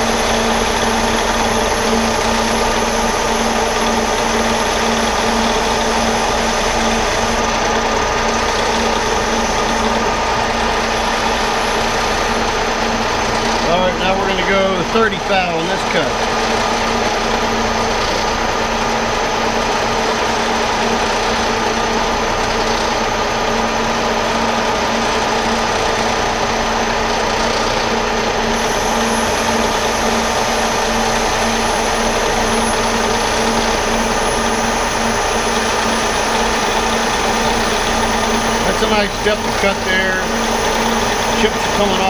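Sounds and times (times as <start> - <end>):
lathe motor hum: 0.0 - 42.0
lathe tool cutting metal: 0.0 - 42.0.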